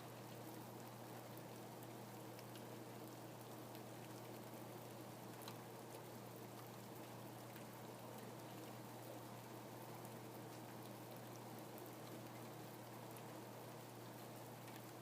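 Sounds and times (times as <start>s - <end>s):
faint rain falling: 0.0s - 15.0s.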